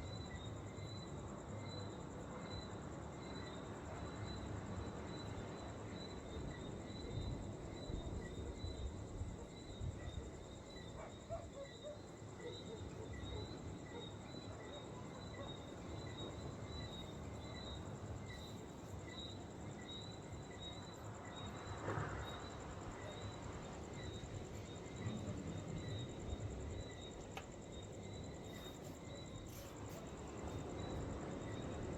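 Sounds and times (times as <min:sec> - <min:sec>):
high insect trill: 0:00.0 - 0:31.9
insect chirping: 0:00.0 - 0:31.9.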